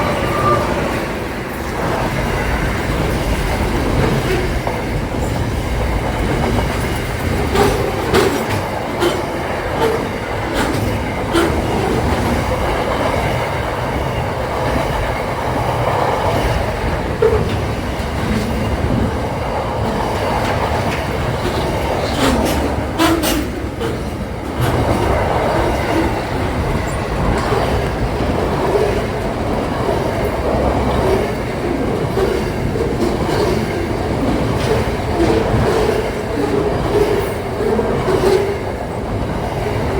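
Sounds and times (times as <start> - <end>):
train wheels rumbling on rails: 0.0 - 39.9
wheels clicking over rail joints: 1.4 - 39.9.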